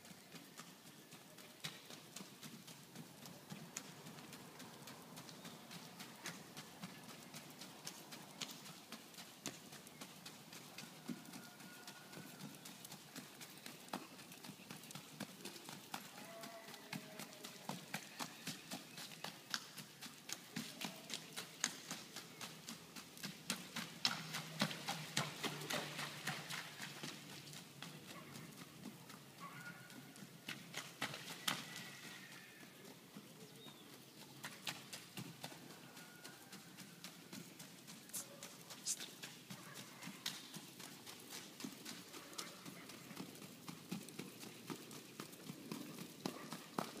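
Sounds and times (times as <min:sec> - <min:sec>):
hoofbeats on dirt and grass: 0:00.0 - 0:47.0.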